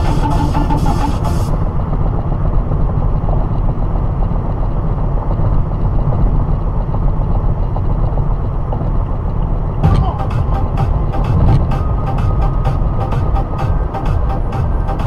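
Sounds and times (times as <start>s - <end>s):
car engine rumble: 0.0s - 15.0s
tyre road noise: 0.0s - 15.0s.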